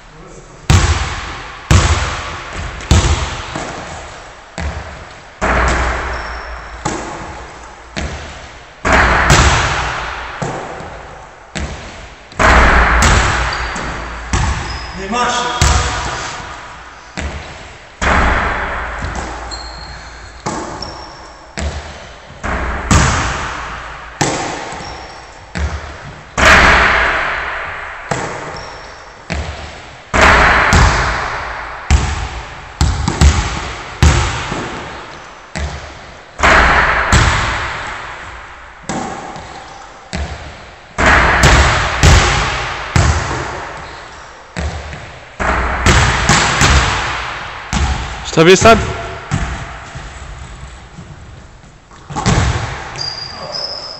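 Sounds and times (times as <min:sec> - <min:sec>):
basketball bouncing on hardwood floor: 0:00.7 - 0:14.9, 0:15.6 - 0:16.5, 0:17.2 - 0:26.8, 0:28.1 - 0:35.0, 0:35.6 - 0:44.0, 0:44.6 - 0:48.2, 0:49.3 - 0:53.2
ball hitting the hoop: 0:00.7 - 0:48.2, 0:48.8 - 0:53.2.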